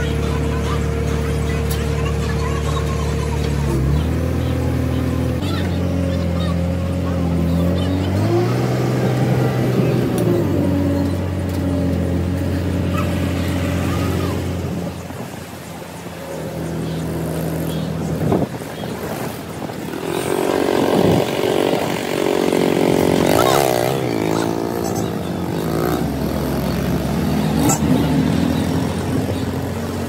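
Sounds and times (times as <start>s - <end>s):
crane diesel engine revving: 0.0s - 15.0s, 19.8s - 30.0s.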